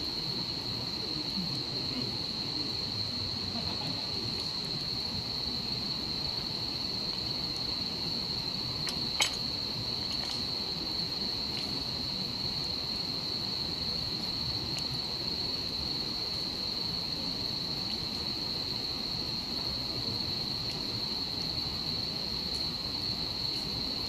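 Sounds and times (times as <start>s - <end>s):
crickets trilling: 0.0s - 24.0s
campfire crackling: 3.5s - 24.0s.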